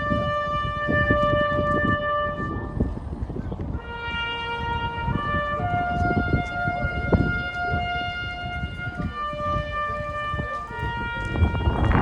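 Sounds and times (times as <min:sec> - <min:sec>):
brass instrument long held notes: 0:00.0 - 0:12.0
low rumbling noise: 0:00.0 - 0:12.0.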